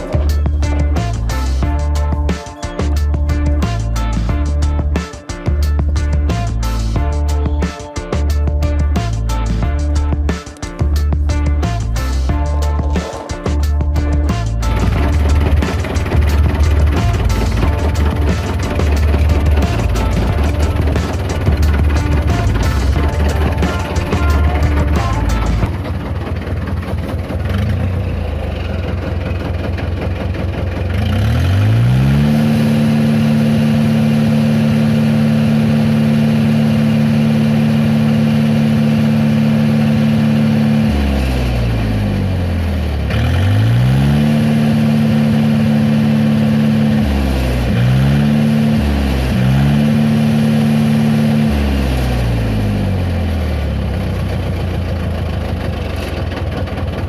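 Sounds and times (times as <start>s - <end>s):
tractor engine idling and revving: 0.0s - 57.0s.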